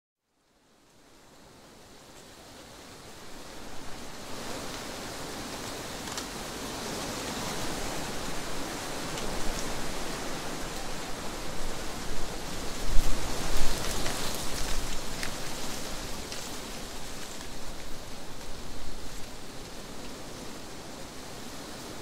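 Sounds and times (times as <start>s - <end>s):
wind rustling leaves: 0.3s - 22.0s.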